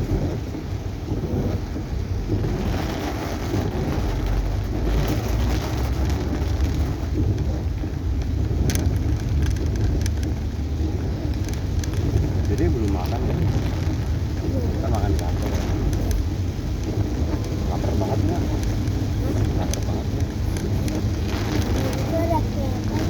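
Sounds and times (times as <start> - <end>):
heavy rain on a car: 0.0 - 23.0
road and engine rumble: 0.0 - 23.0.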